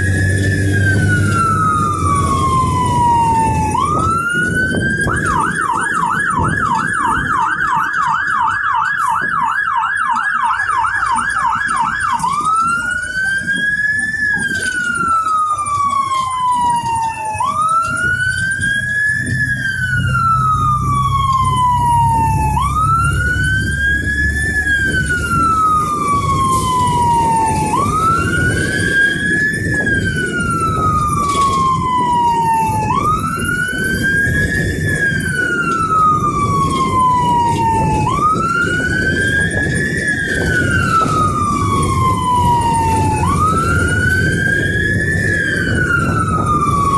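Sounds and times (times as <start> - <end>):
electronic siren yelp and wail: 0.0 - 46.9
engine and road rumble: 0.0 - 46.9.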